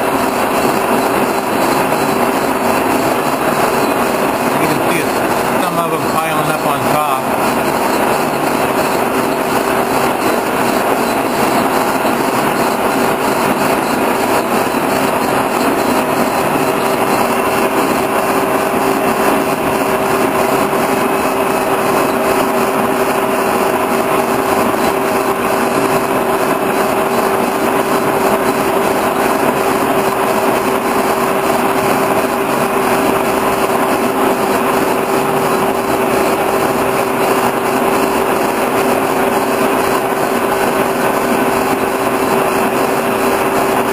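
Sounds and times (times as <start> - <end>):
boring mill drive whine: 0.0 - 43.9
machining noise: 0.0 - 43.9.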